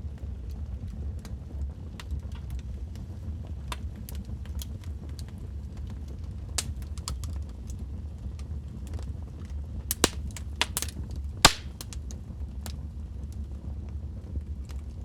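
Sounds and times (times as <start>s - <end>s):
low fire rumble: 0.0s - 15.0s
fire crackling and popping: 0.6s - 12.9s.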